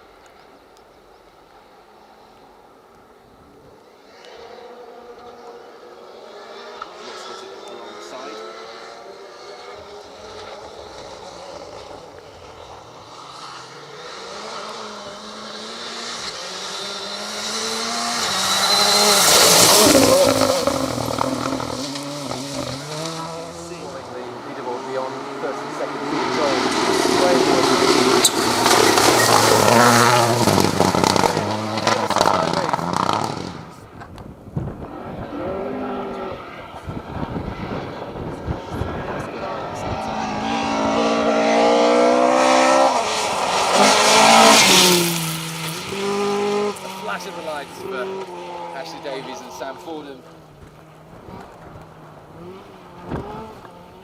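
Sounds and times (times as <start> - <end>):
rally car engine approaching: 0.3 - 54.0.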